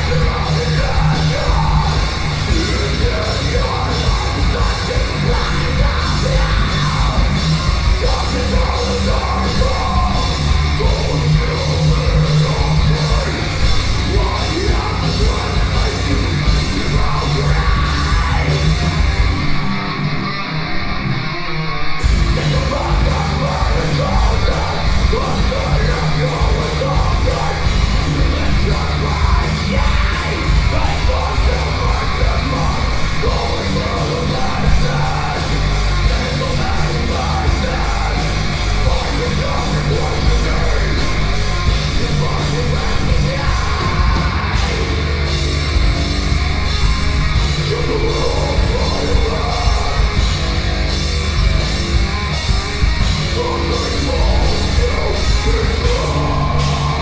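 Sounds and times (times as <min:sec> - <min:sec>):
distorted guitars and bass: 0:00.0 - 0:57.0
fast driving drums: 0:00.0 - 0:57.0
harsh yelled vocals: 0:00.0 - 0:57.0.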